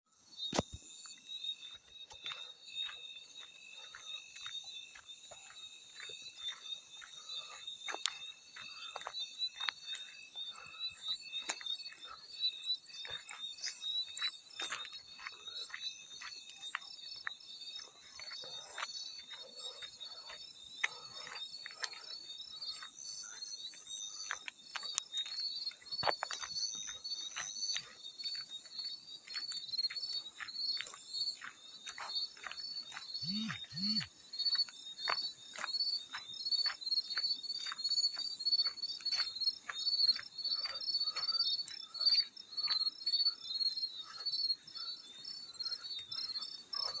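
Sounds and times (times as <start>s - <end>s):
crickets chirping: 0.2s - 47.0s.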